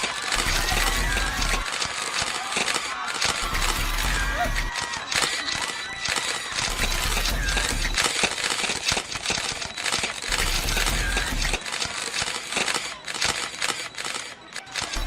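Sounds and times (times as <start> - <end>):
camera shutters clicking: 0.0 - 15.0
crowd hubbub: 0.0 - 15.0.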